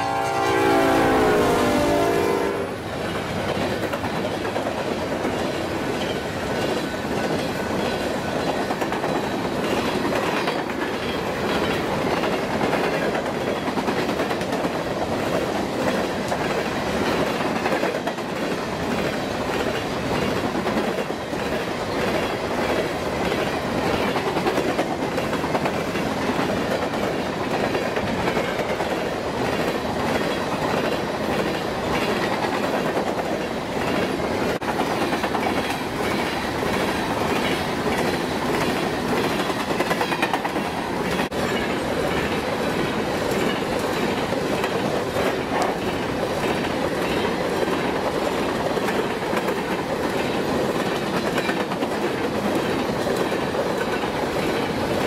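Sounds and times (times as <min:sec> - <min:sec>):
train wheels rumbling on rails: 0:00.0 - 0:55.0
wheels clicking over track joints: 0:03.1 - 0:55.0.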